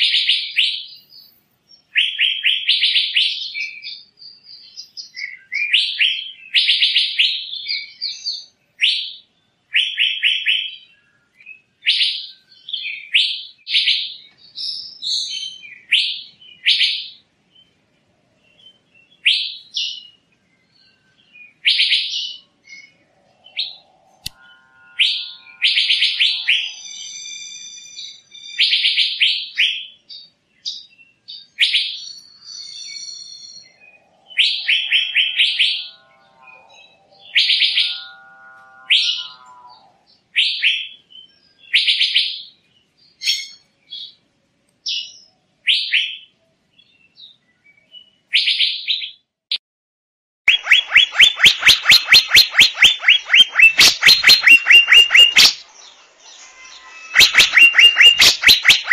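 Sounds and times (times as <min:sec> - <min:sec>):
bird calling with sharp high notes: 0:00.0 - 0:17.2, 0:18.5 - 0:44.2, 0:44.9 - 0:49.2, 0:50.5 - 0:58.9
ringing bird calls: 0:00.0 - 0:44.3, 0:50.5 - 0:58.9.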